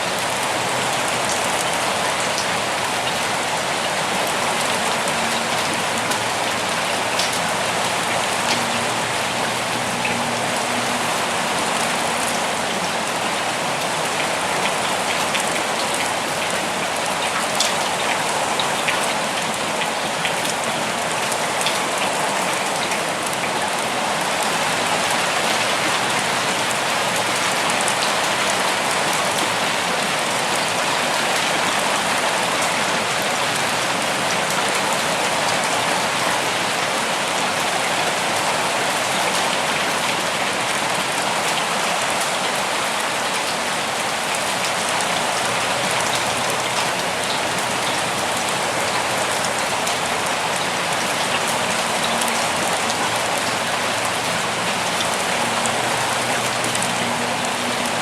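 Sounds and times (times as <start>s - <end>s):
rain on leaves and ground: 0.0s - 58.0s.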